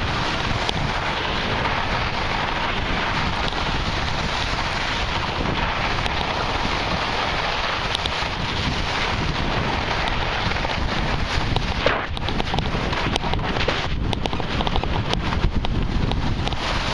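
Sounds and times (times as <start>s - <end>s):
skis carving over snow: 0.0s - 16.9s
wind buffeting microphone: 0.0s - 16.9s.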